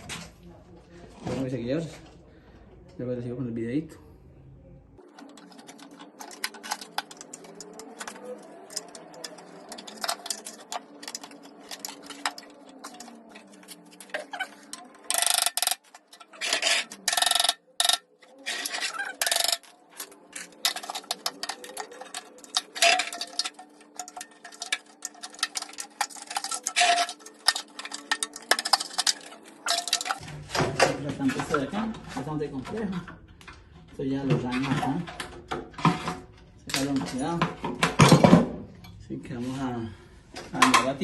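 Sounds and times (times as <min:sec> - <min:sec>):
metal scraping: 0:05.0 - 0:39.7.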